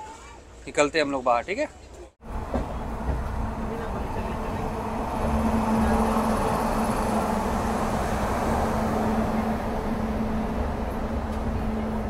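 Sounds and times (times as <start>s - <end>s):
train coach rumbling: 2.2s - 12.0s.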